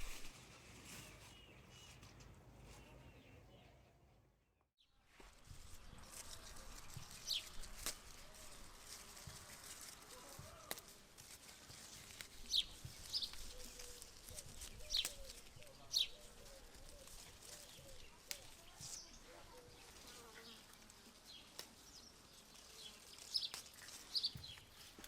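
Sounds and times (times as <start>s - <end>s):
small birds chirping: 0.0s - 4.6s, 5.3s - 25.0s.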